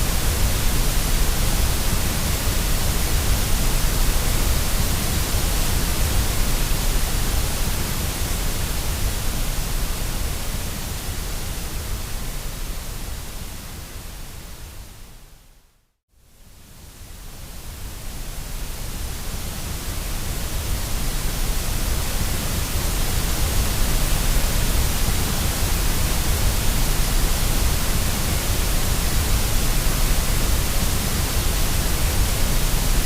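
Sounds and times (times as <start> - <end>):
white noise hiss: 0.0 - 33.0.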